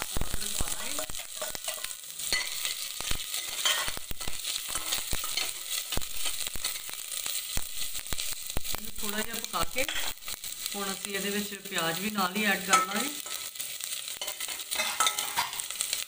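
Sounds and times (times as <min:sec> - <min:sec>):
garlic and ginger sizzling: 0:00.0 - 0:16.0.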